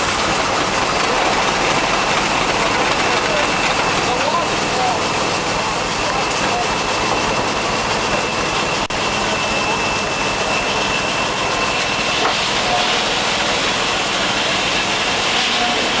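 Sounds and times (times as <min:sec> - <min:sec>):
high steady whine: 0:00.0 - 0:16.0
steam engine hissing: 0:00.0 - 0:16.0.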